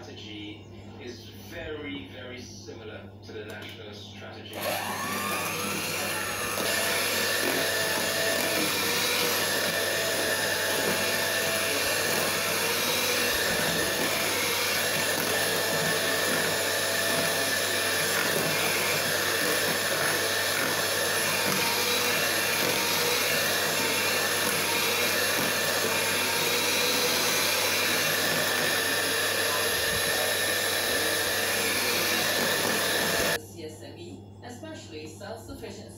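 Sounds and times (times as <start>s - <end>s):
electric hand mixer whirring: 4.5s - 33.4s.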